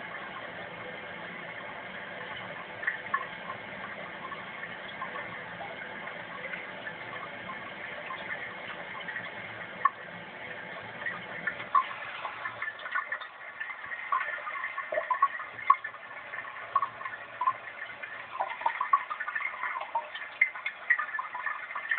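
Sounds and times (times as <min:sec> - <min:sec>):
water running into toilet bowl: 0:00.0 - 0:21.9
water splashes and drips: 0:00.0 - 0:21.9.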